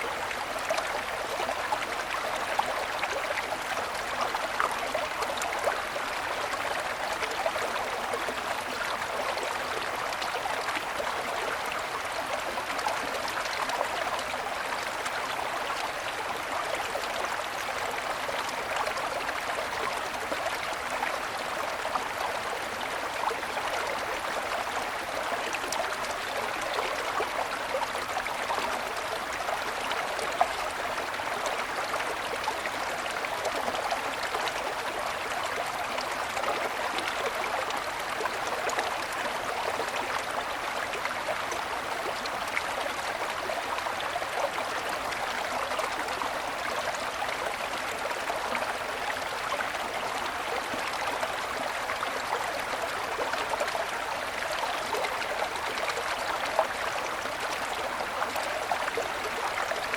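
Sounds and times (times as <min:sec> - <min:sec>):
mountain stream babbling: 0:00.0 - 0:59.9.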